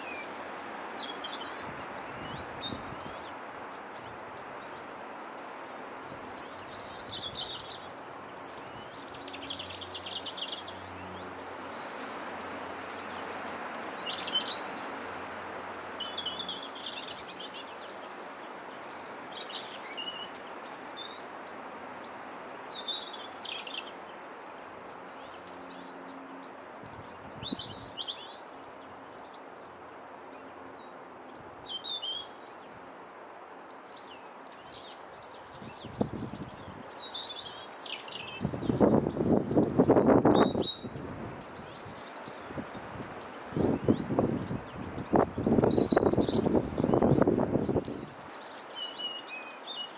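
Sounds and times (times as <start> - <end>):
robin singing: 0.0 - 21.3, 21.9 - 32.9, 33.5 - 49.9.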